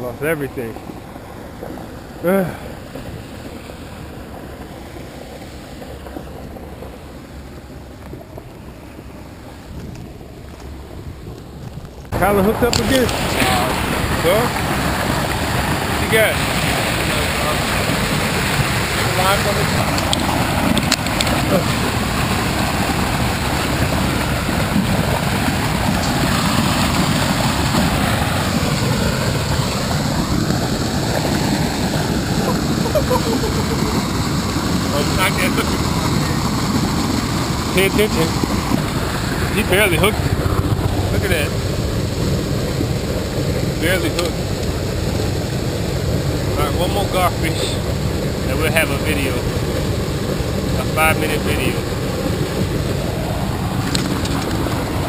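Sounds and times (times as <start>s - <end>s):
floodwater rushing: 0.0s - 55.0s
wind on microphone: 0.0s - 55.0s
water pouring from pipe: 0.8s - 55.0s.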